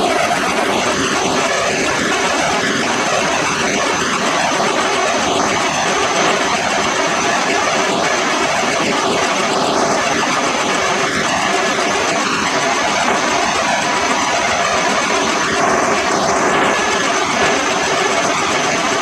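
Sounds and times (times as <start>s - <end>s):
loud mechanical noise: 0.0s - 19.0s.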